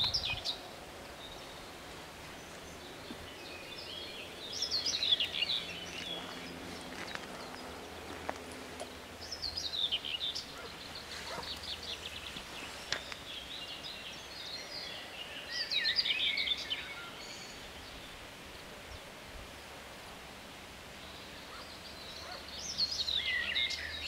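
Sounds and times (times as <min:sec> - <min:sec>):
faint outdoor background noise: 0:00.0 - 0:24.0
songbird singing: 0:00.0 - 0:24.0.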